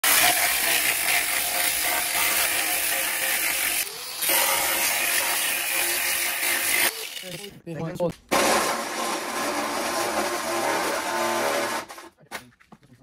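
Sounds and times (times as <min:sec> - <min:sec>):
angle grinder cutting metal: 0:00.0 - 0:07.5, 0:08.3 - 0:12.1.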